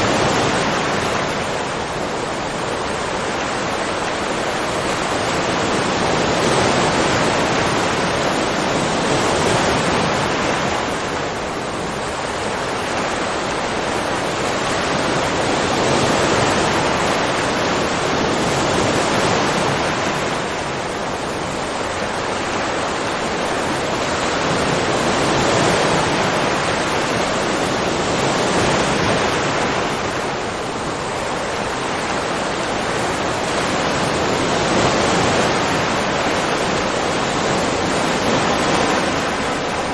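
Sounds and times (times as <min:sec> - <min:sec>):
ocean surf washing in: 0:00.0 - 0:39.9.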